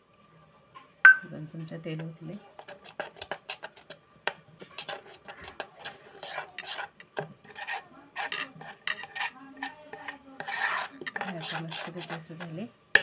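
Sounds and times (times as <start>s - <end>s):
spoon beating batter in metal pot: 1.6s - 13.0s.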